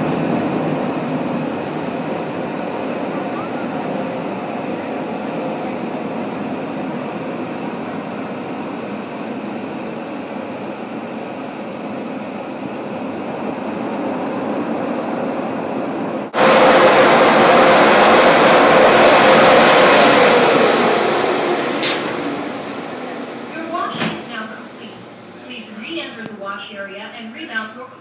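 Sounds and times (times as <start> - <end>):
drying blowers rushing air: 0.0 - 26.6.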